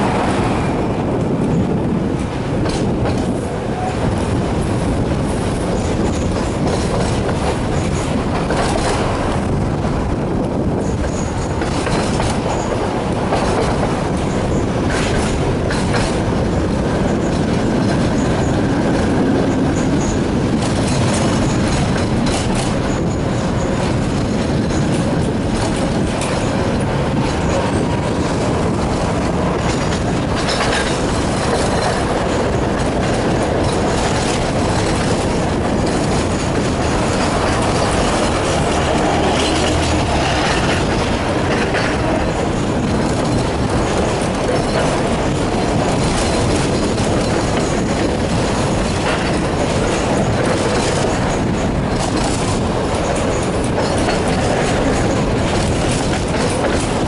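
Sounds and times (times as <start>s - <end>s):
tram wheels rumbling on rails: 0.0s - 57.0s
clicks over rail joints: 5.6s - 9.6s, 10.4s - 57.0s.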